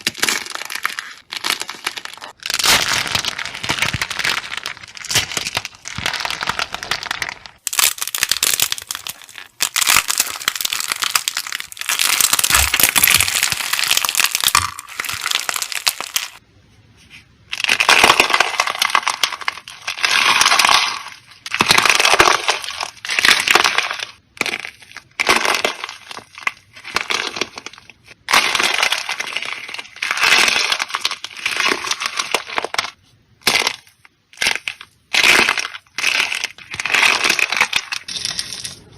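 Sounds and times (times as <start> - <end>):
crunchy slime crackling: 0.0 - 16.4, 17.5 - 38.9.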